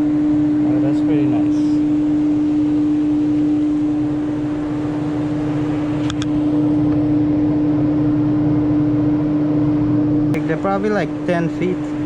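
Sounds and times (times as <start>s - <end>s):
loud machine hum: 0.0s - 12.0s.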